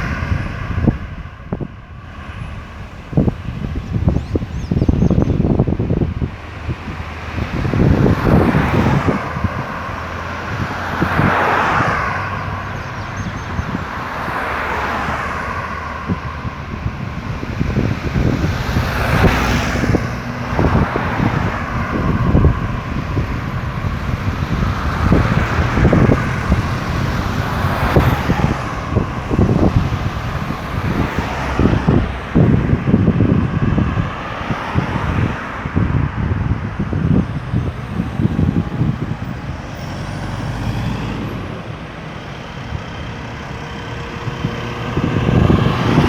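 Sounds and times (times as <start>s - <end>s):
cars passing: 0.0s - 46.0s
wind buffeting microphone: 0.0s - 46.0s.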